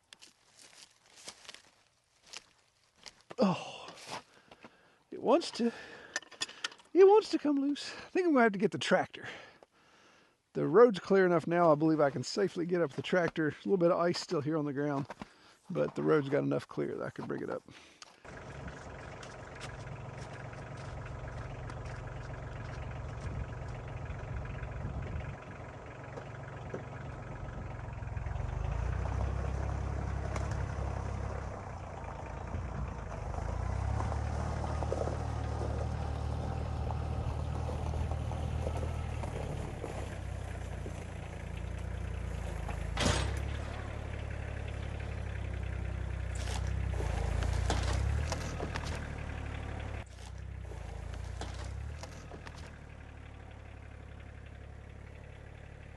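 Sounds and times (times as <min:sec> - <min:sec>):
tractor engine running: 0:00.0 - 0:08.5, 0:10.6 - 0:55.9.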